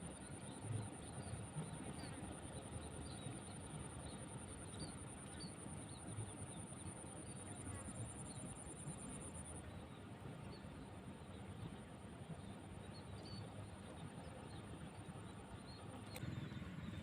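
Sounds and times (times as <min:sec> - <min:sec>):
steady high-pitched insect trill: 0:00.0 - 0:17.0.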